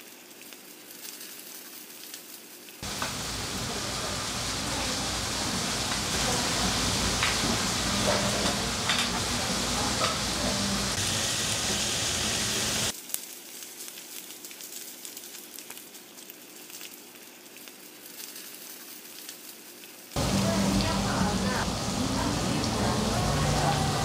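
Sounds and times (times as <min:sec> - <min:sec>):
meat sizzling on a griddle: 0:00.0 - 0:24.0.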